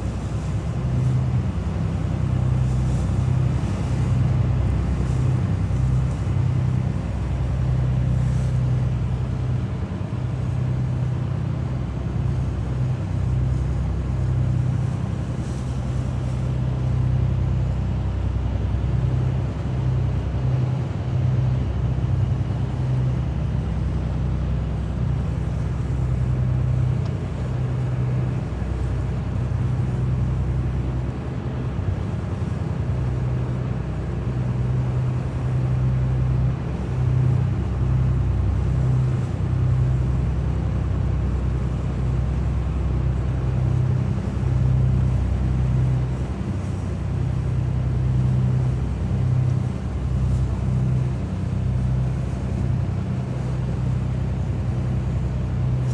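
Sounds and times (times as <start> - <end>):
boat engine droning: 0.0 - 55.9.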